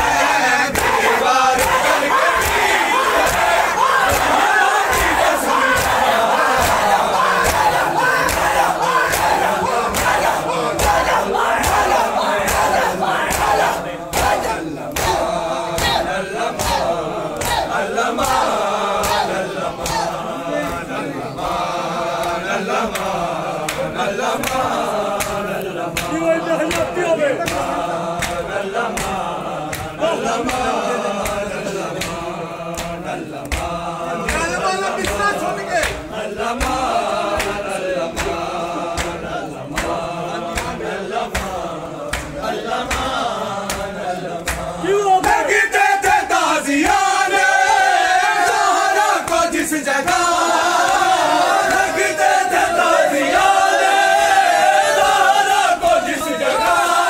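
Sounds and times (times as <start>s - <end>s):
men chanting together: 0.0s - 57.0s.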